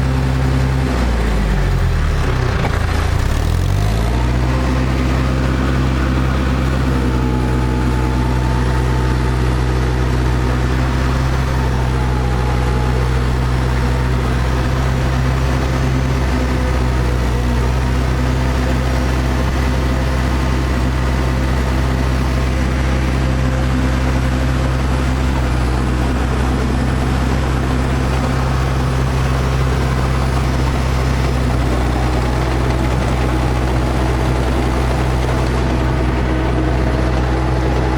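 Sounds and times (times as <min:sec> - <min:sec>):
diesel engine idling: 0:00.0 - 0:37.9
cooling fan running: 0:04.9 - 0:37.9.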